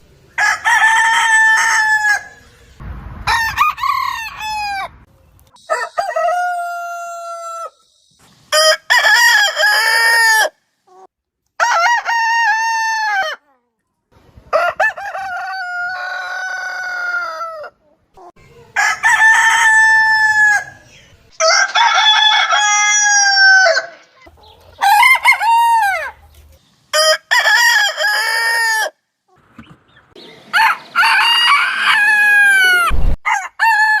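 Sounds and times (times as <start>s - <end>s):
roosters crowing: 0.3s - 7.8s, 8.5s - 10.6s, 11.6s - 13.4s, 14.5s - 17.8s, 18.7s - 26.3s, 26.9s - 29.0s, 30.2s - 34.0s.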